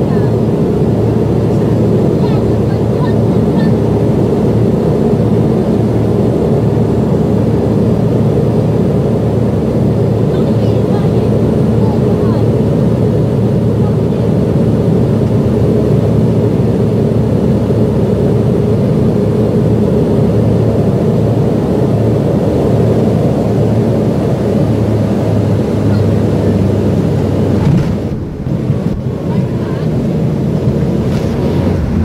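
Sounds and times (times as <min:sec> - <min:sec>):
jet airliner cabin roar: 0:00.0 - 0:32.0.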